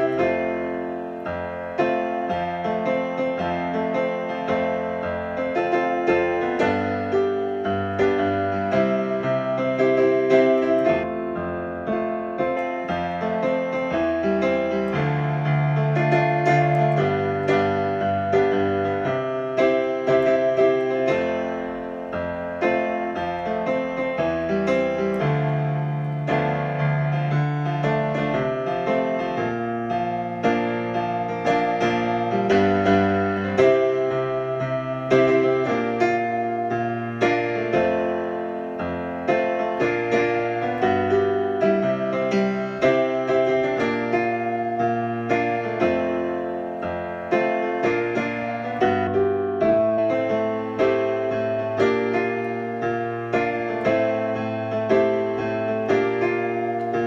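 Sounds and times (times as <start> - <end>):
digital piano playing: 0.0 - 57.0.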